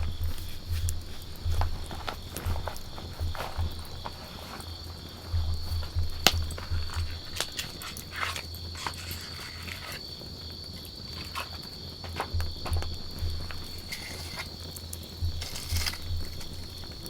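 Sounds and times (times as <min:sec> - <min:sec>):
campfire crackling and popping: 0:00.0 - 0:17.0
insect trill: 0:00.0 - 0:17.0.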